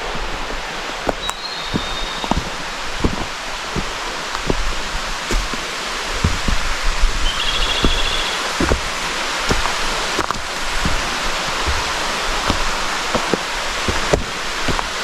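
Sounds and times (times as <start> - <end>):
river water rushing: 0.0 - 15.0
soft low thumps: 0.0 - 15.0.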